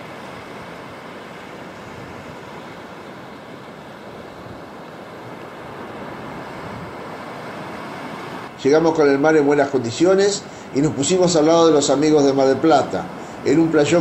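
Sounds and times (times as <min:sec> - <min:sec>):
small waves on sandy beach: 0:00.0 - 0:14.0
wind: 0:00.0 - 0:14.0.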